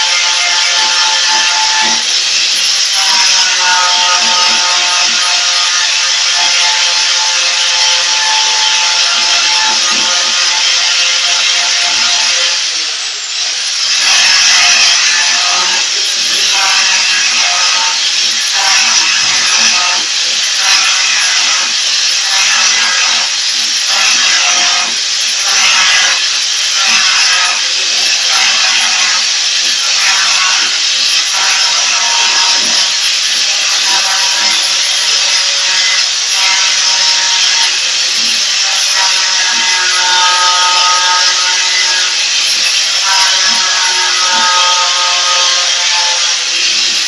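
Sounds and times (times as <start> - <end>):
steady squealing tone: 0.0 - 47.0.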